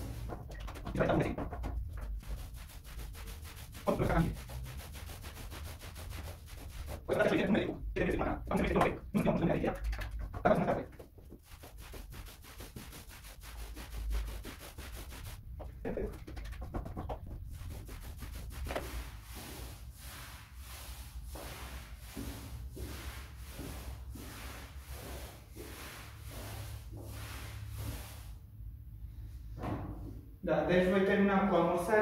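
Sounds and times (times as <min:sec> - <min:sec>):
paint roller swishing on wall: 0:00.0 - 0:28.5.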